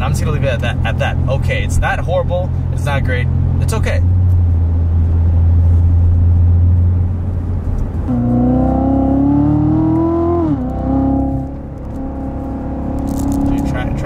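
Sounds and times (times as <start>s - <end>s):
car engine accelerating: 2.5s - 14.0s.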